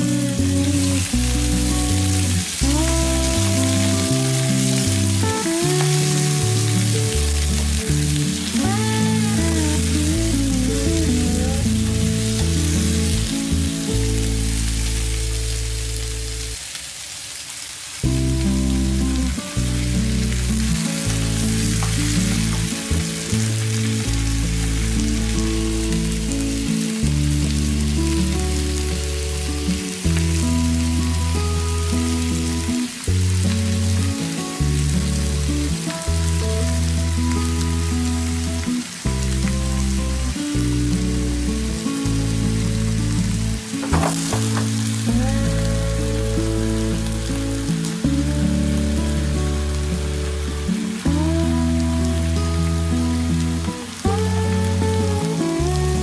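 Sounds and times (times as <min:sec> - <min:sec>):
background music with bass line: 0:00.0 - 0:16.6, 0:18.0 - 0:56.0
vegetables sizzling in a frying pan: 0:00.0 - 0:56.0.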